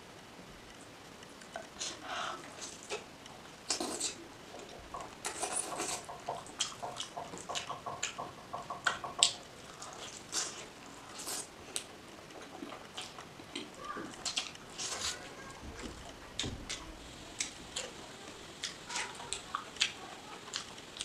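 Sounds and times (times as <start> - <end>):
wet chewing and lip-smacking: 0.8 - 15.2, 18.6 - 21.0.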